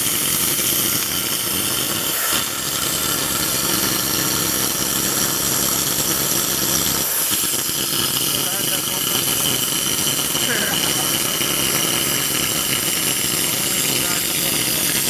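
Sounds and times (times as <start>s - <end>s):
cutting torch hissing: 0.0s - 15.0s.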